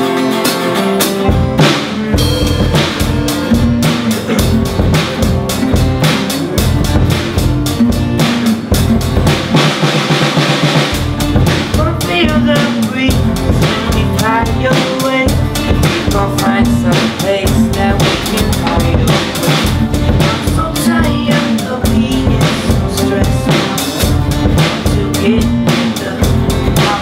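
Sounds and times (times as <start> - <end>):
drum kit beat: 0.0 - 27.0
guitars playing: 0.0 - 27.0.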